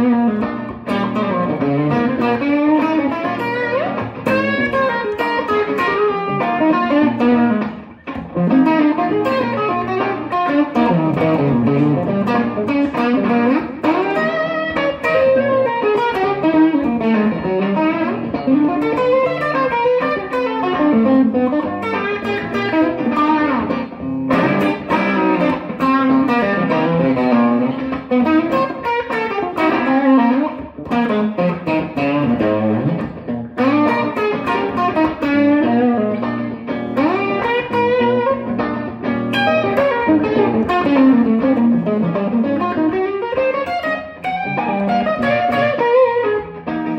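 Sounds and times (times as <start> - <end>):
electric guitar with string bends: 0.0 - 46.9
looped backing chords: 0.0 - 46.9.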